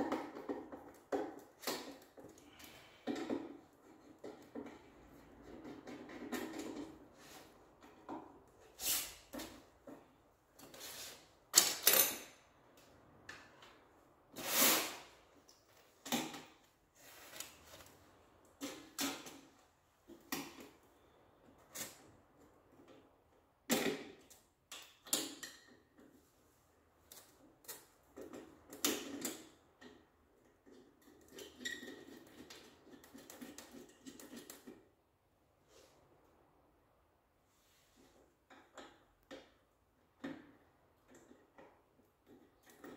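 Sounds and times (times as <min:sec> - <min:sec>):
tools and parts clicking and knocking: 0:00.0 - 0:10.8, 0:11.5 - 0:13.8, 0:15.5 - 0:17.8, 0:18.5 - 0:20.8, 0:21.7 - 0:26.3, 0:27.0 - 0:35.0, 0:38.4 - 0:42.9.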